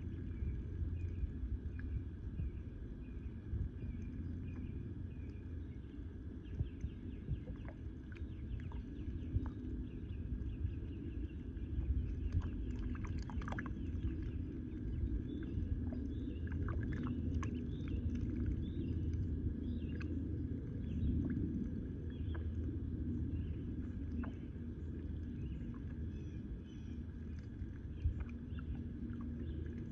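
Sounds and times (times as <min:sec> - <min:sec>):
ducklings dabbling in muddy water: 0:00.0 - 0:29.9
steady low rumble: 0:00.0 - 0:29.9.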